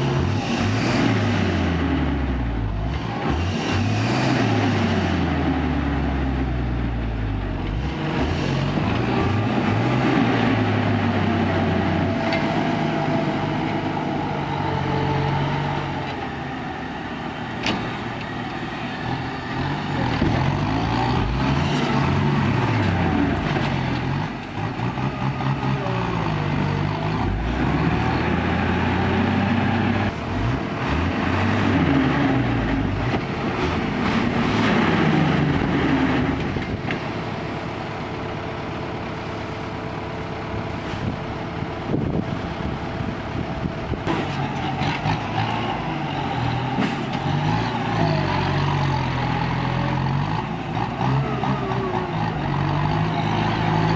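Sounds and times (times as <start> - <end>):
diesel truck engine revving: 0.0 - 37.0, 40.7 - 53.9.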